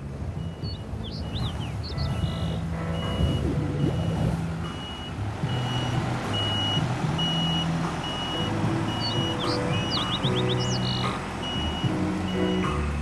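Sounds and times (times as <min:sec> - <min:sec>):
low rumble: 0:00.0 - 0:13.0
reversing alarm beeping: 0:00.3 - 0:13.0.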